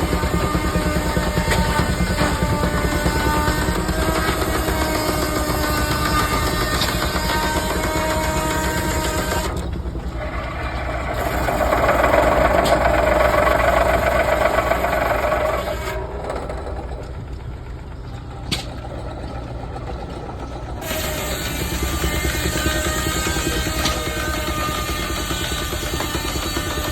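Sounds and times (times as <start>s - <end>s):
saw blade whine: 0.0s - 26.9s
steam engine rumble: 0.0s - 26.9s.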